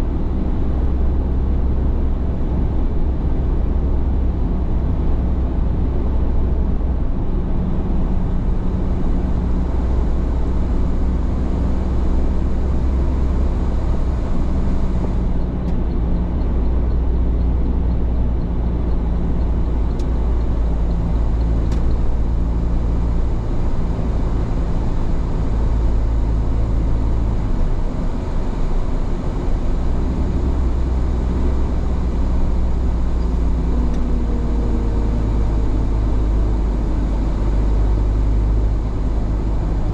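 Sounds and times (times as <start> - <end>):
car engine: 0.0 - 39.9.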